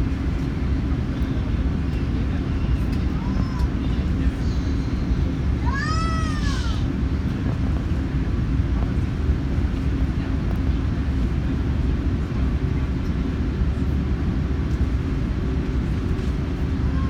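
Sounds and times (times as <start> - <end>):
jet engines low rumble in cabin: 0.0 - 17.0.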